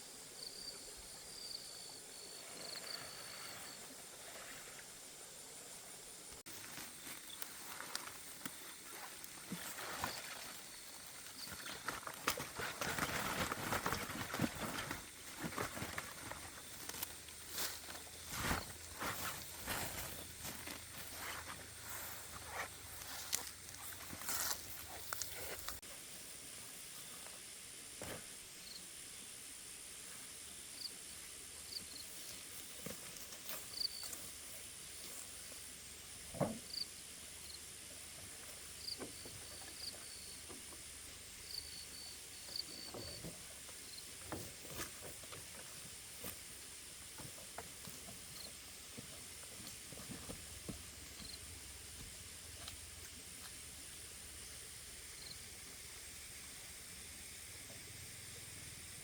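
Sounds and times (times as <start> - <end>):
insects hissing: 0.0 - 59.0.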